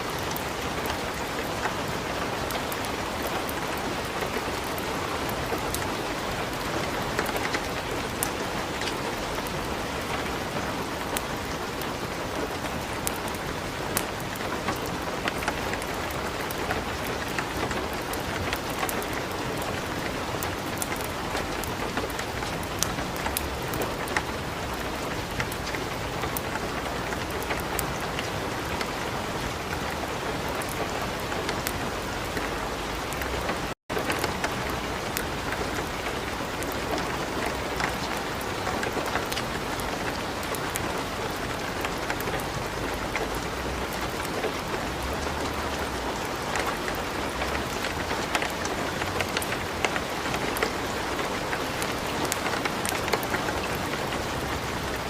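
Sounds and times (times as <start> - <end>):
light rain: 0.0 - 55.0
wood fire crackling: 5.5 - 29.0, 33.0 - 55.0.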